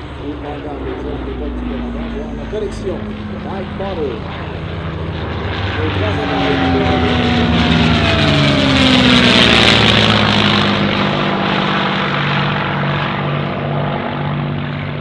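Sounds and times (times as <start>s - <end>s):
propeller plane passing overhead: 0.0s - 15.0s.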